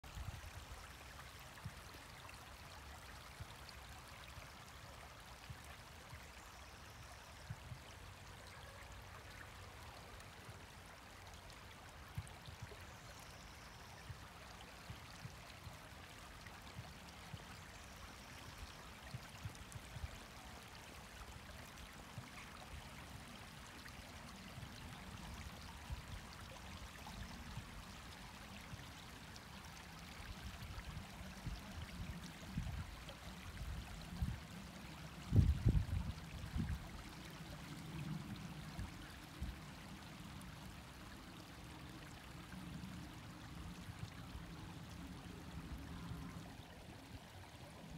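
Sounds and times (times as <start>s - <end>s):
brook trickling over stones: 0.0s - 47.9s.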